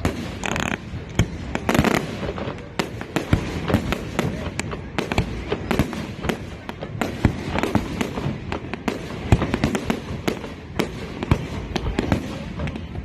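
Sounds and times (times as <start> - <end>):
fireworks bangs and crackles: 0.0 - 13.0
fireworks booms: 0.0 - 13.0.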